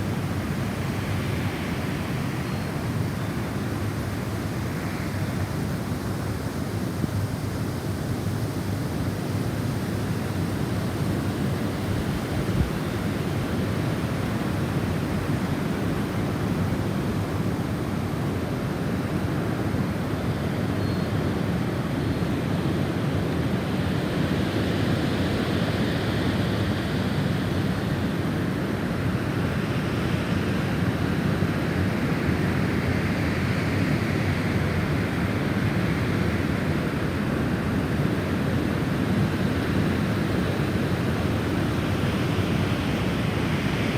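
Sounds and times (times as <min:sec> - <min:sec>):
snowstorm wind blowing: 0:00.0 - 0:20.7, 0:21.4 - 0:43.9.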